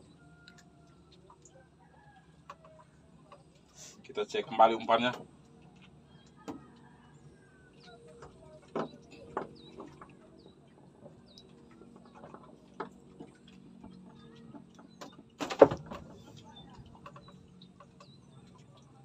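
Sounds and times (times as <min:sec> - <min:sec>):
small birds chirping: 0:00.0 - 0:15.4, 0:16.0 - 0:19.0.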